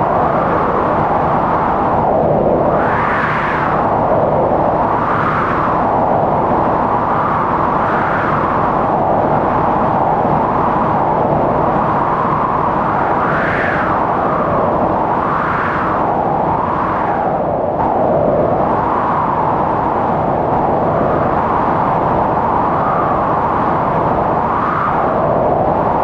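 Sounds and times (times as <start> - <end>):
storm wind howling: 0.0 - 26.0.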